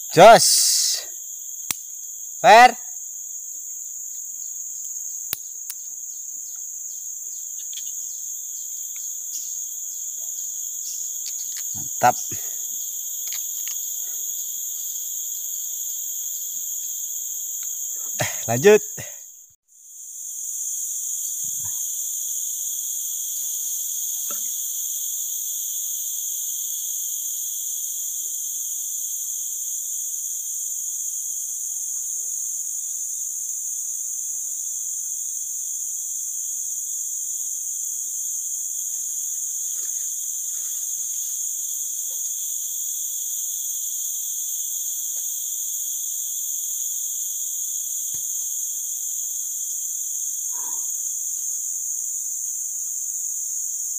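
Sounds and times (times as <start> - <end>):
insects buzzing drone: 0.0 - 53.9.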